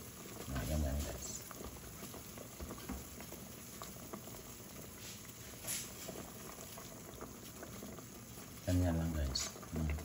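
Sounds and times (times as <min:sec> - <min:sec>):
broth boiling in a pot: 0:00.0 - 0:10.0.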